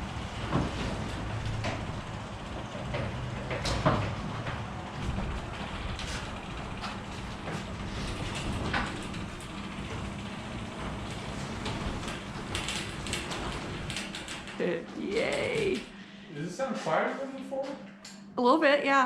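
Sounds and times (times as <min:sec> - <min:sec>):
garage door rollers rattling: 0:00.0 - 0:15.9
garage door motor hum: 0:00.0 - 0:17.1.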